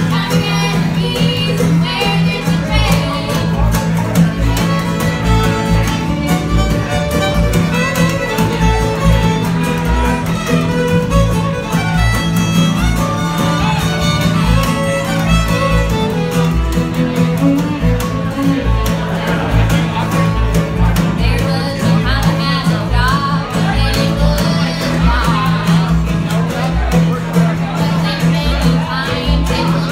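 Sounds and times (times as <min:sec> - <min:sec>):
fiddle playing tune: 0:00.0 - 0:26.5
bluegrass string band playing: 0:00.0 - 0:29.9
upright bass walking beat: 0:00.0 - 0:29.9.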